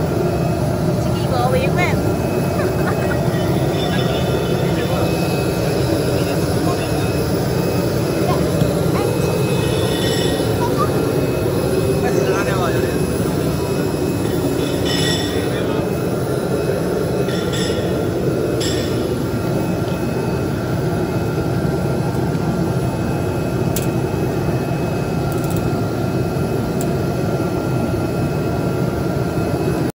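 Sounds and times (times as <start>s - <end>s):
machine running: 0.0s - 29.8s
faint constant whine: 0.0s - 29.9s.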